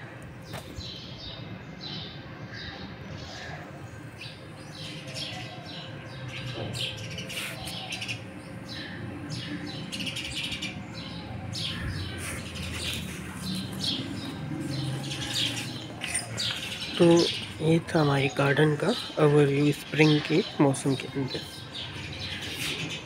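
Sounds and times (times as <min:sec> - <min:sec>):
small birds chirping: 0:00.4 - 0:23.0.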